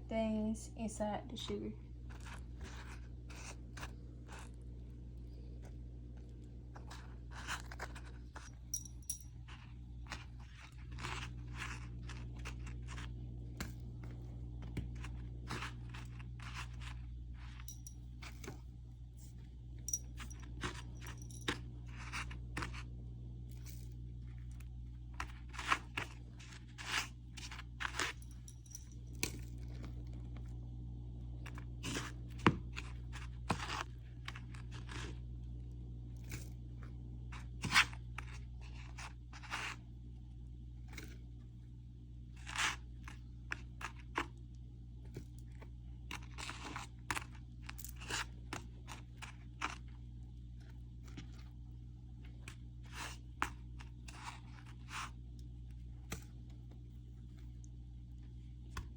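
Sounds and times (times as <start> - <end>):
steady low hum: 0.0 - 58.9
food scraping and crunching in sugar: 1.9 - 30.5, 31.2 - 41.3, 42.3 - 57.6.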